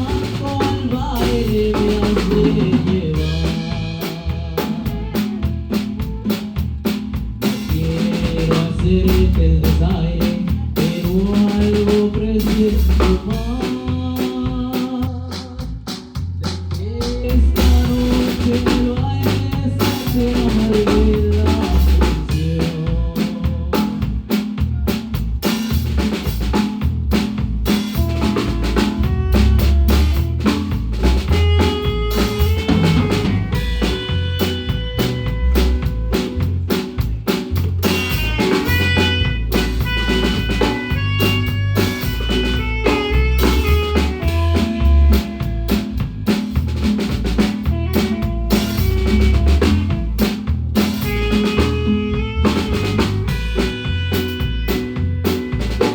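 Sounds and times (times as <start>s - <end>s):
marimba band playing: 0.0s - 14.8s, 17.0s - 55.9s
bass line: 0.0s - 55.9s
drum kit: 0.0s - 55.9s.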